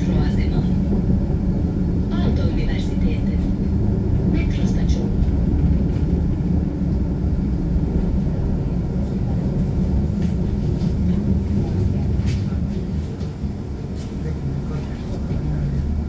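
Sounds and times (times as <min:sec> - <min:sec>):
tram running rumble: 0:00.0 - 0:16.0.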